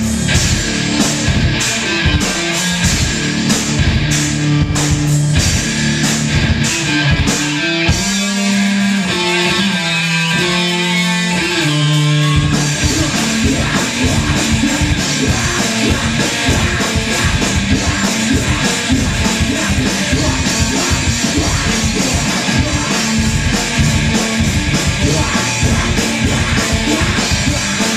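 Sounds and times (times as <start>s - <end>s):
fast busy drumming: 0.0s - 9.7s, 12.2s - 27.9s
live rock band playing: 0.0s - 27.9s.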